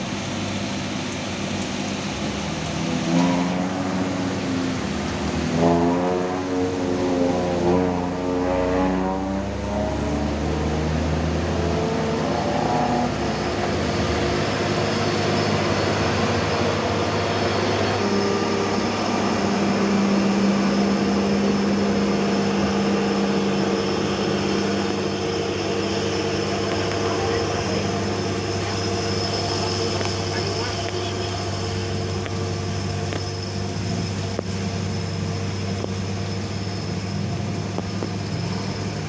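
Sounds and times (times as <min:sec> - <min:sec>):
diesel truck engine droning: 0:00.0 - 0:39.0
strong steady tone: 0:01.4 - 0:39.0.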